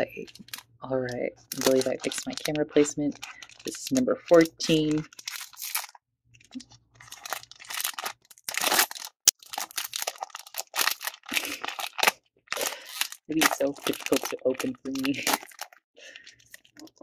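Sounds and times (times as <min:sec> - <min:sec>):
foil wrapper crinkling and tearing: 0:00.2 - 0:00.8, 0:01.4 - 0:17.0.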